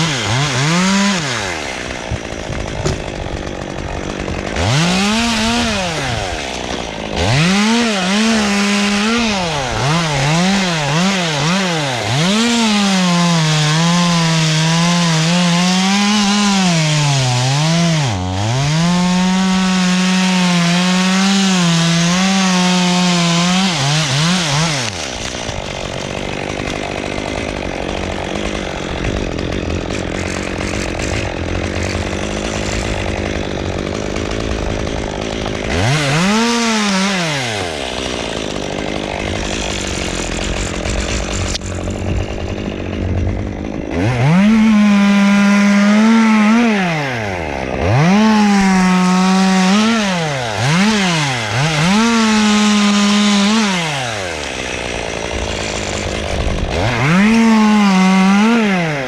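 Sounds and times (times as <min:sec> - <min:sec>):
chainsaw revving and cutting wood: 0:00.0 - 0:59.0.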